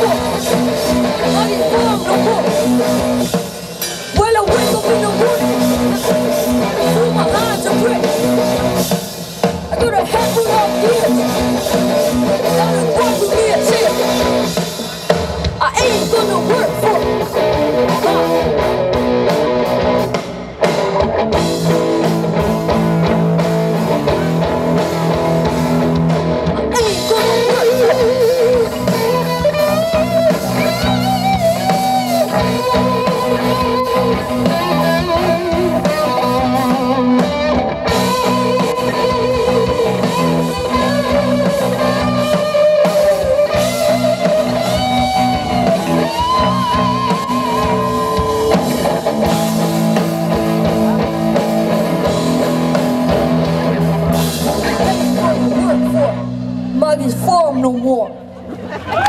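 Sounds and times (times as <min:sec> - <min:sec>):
drum kit: 0:00.0 - 0:57.7
bass guitar: 0:00.0 - 0:59.0
electric guitar: 0:00.0 - 0:59.0.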